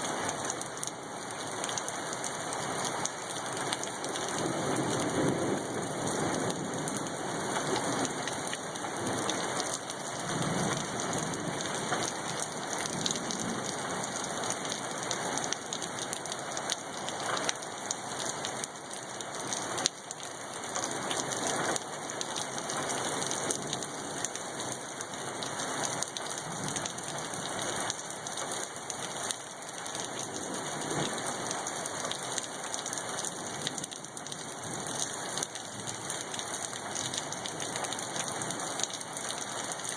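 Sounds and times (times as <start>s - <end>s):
hail and rain pelting: 0.0s - 39.9s.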